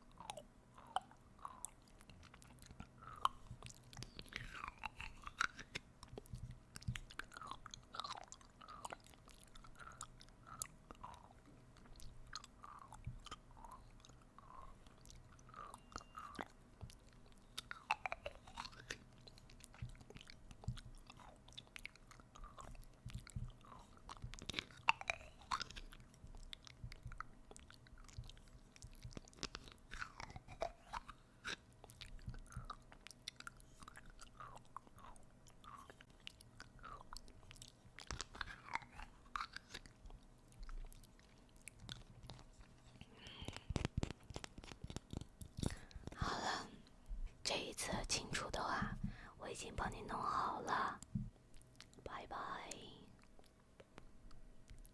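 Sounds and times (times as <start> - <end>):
tongue clicks: 0.1 - 46.9
wet lip smacks: 0.3 - 46.8.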